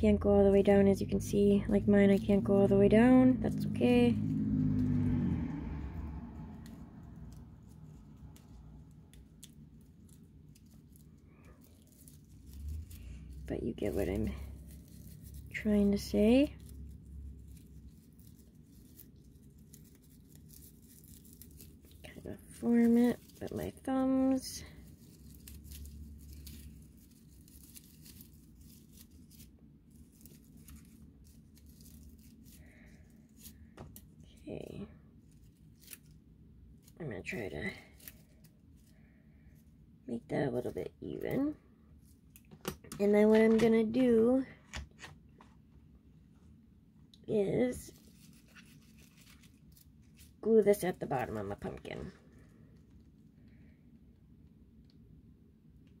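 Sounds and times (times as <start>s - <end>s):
raffia rustling and crackling: 0.0s - 46.4s, 47.6s - 54.0s
low steady hum: 0.0s - 56.0s.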